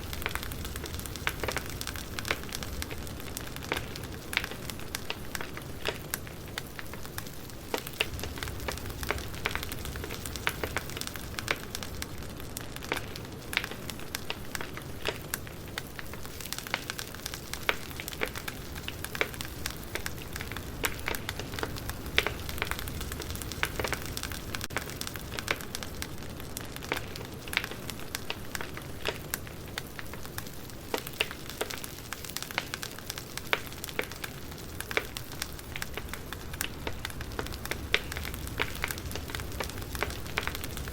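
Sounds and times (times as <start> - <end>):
firewood crackling: 0.0 - 40.9.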